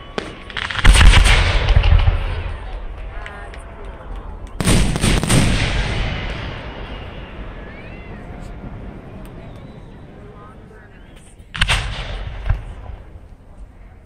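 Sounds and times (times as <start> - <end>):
fireworks booming and crackling: 0.0 - 13.8.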